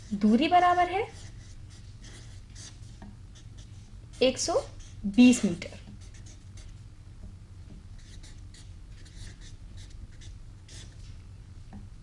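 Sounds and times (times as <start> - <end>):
marker scratching on paper: 0.0 - 6.8, 8.0 - 11.1
steady low hum: 0.0 - 12.0.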